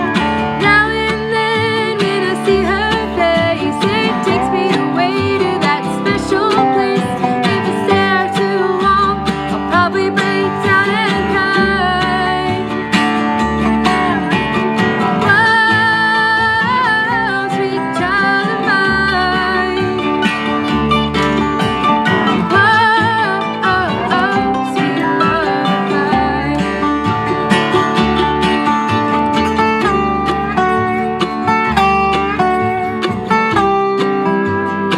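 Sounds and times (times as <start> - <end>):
acoustic guitar: 0.0 - 34.9
person singing: 0.0 - 34.9
steady bass: 0.0 - 34.9.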